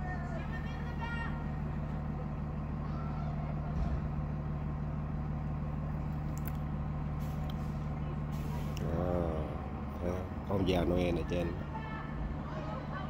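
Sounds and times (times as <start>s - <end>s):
fire engine droning: 0.0s - 13.0s.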